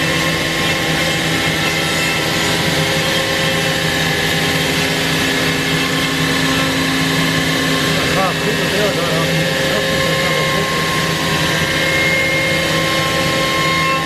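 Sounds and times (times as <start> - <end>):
router spindle whine: 0.0 - 14.0.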